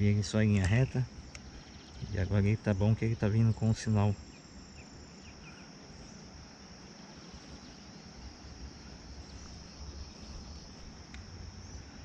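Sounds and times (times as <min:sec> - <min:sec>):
insects chirping in grass: 0:00.0 - 0:12.0.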